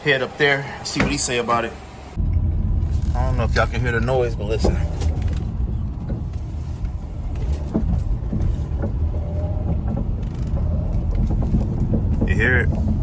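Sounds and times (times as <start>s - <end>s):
failing wheel hub noise: 0.0s - 13.0s
road rumble inside car: 0.0s - 13.0s.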